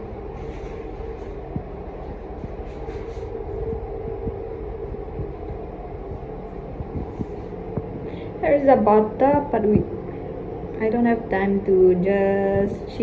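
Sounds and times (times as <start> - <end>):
low rumble: 0.0 - 13.0
machine hum: 0.0 - 13.0.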